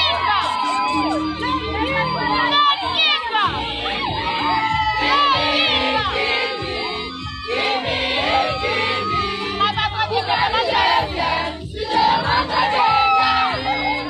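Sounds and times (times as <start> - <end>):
crowd cheering and singing: 0.0 - 14.0
loud music: 0.0 - 14.0.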